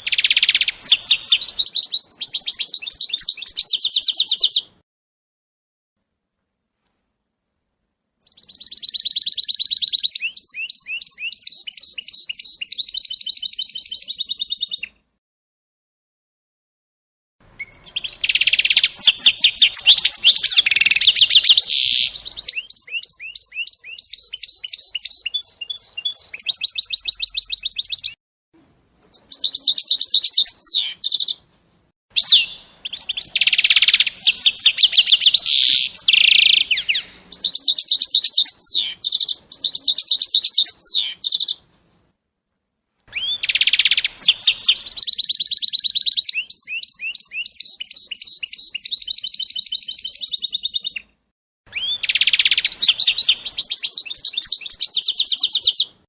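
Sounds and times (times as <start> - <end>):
songbird trilling and warbling: 0.0 - 4.8, 8.2 - 15.0, 17.6 - 28.2, 29.0 - 31.4, 32.2 - 41.6, 43.1 - 51.1, 51.7 - 56.0.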